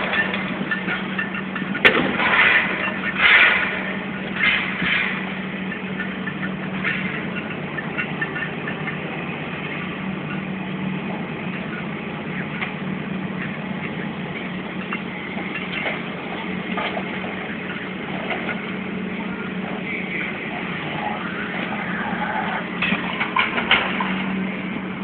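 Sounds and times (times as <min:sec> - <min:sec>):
diesel machinery running: 0:00.0 - 0:25.0.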